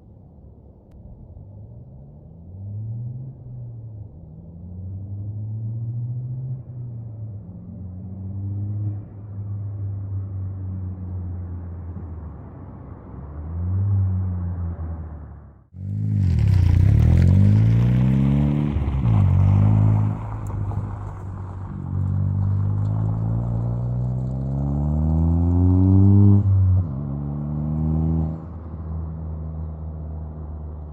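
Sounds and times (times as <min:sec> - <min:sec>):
car engine idling and revving: 0:00.6 - 0:30.9.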